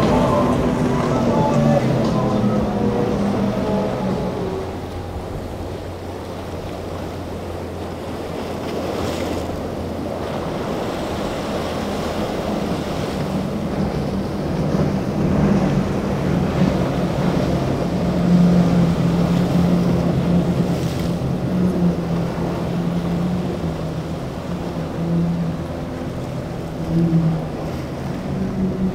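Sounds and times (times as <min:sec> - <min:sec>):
outboard motor drone: 0:00.0 - 0:28.9
waves breaking: 0:00.0 - 0:28.9
wind rumbling on microphone: 0:00.0 - 0:28.9.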